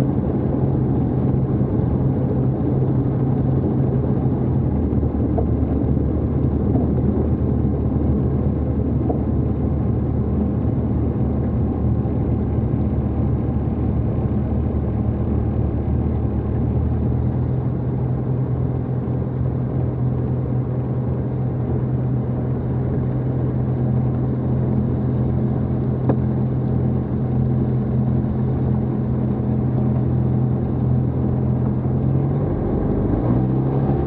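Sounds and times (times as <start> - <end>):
light aircraft engine running: 0.0 - 34.0.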